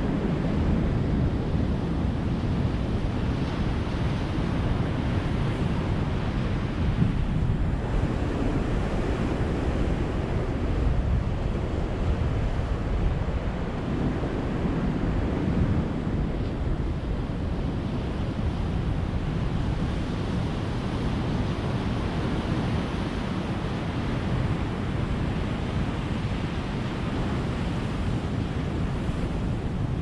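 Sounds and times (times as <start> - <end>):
waves breaking on shore: 0.0 - 30.0.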